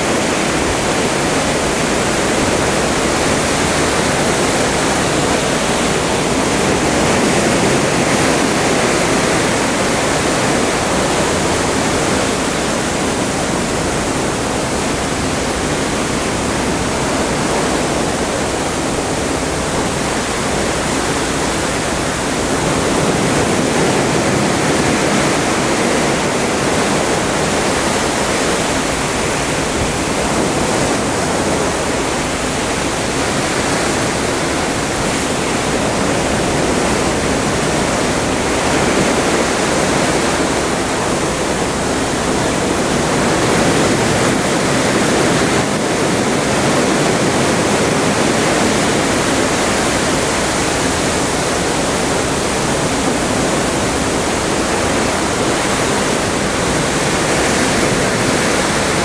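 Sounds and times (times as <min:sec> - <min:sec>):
water rushing along ship: 0:00.0 - 0:59.0.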